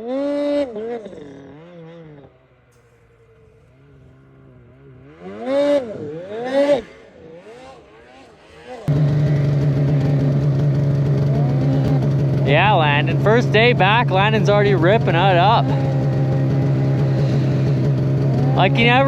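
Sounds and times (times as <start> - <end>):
distant snowmobile engine revving: 0.0 - 19.0
loud close snowmobile engine: 0.0 - 19.0.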